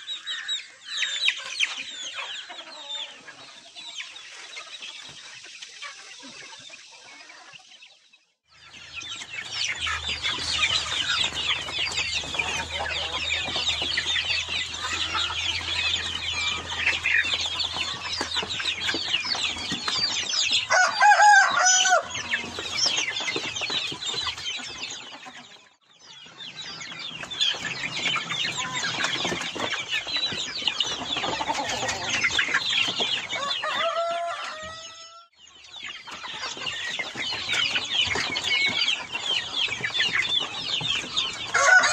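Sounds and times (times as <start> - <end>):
young chickens chirping and clucking: 0.0 - 41.9.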